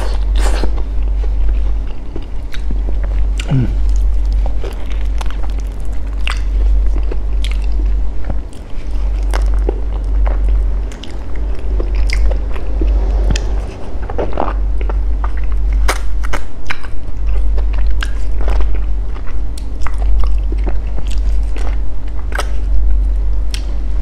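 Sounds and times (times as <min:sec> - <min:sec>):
chewing mouth noises: 0:00.0 - 0:22.7
steady low hum: 0:00.0 - 0:24.0.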